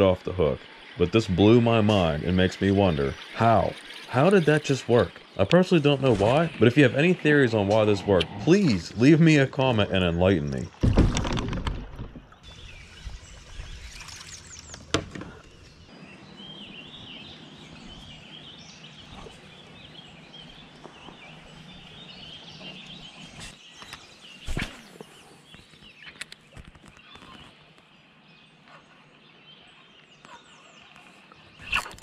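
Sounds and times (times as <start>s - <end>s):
birds chirping: 0.0s - 32.0s
low outdoor background: 0.0s - 32.0s.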